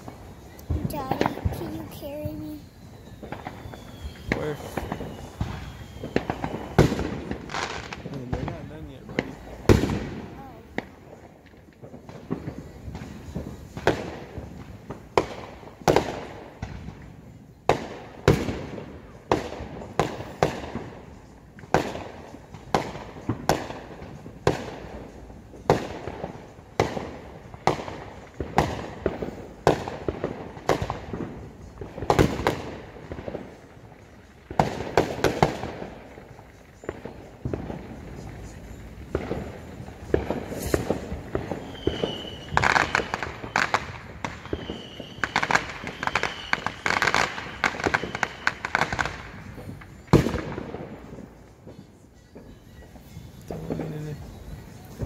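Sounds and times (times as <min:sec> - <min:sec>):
firework whistle: 0:00.0 - 0:10.6, 0:17.7 - 0:55.0
firework bangs: 0:00.0 - 0:55.0.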